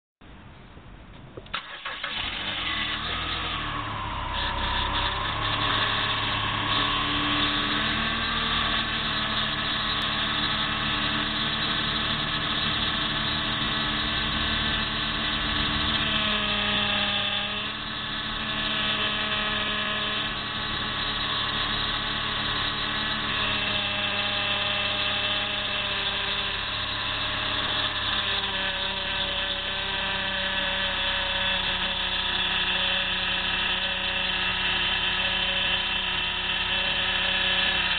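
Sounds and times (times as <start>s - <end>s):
power steering pump whine: 1.1s - 37.9s.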